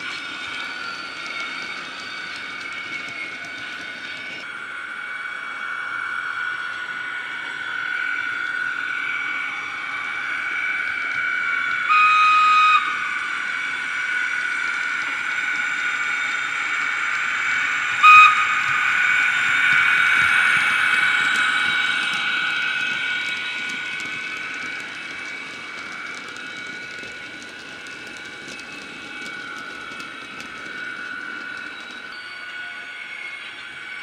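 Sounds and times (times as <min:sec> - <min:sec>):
electric locomotive whine: 0:00.0 - 0:34.0
locomotive whistle: 0:05.1 - 0:34.0.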